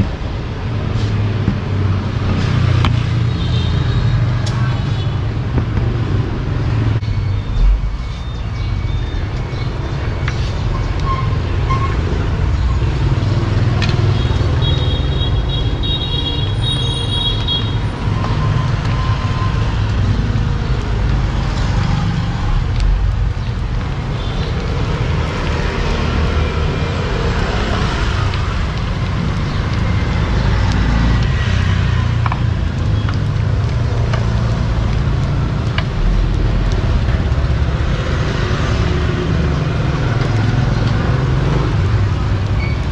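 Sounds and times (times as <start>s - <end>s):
oil sizzling: 0.0s - 7.0s, 8.0s - 42.9s
road traffic rumble: 0.0s - 42.9s.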